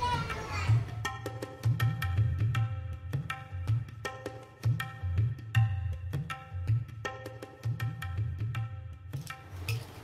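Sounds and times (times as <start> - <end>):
tabla drumming: 0.0 - 10.0.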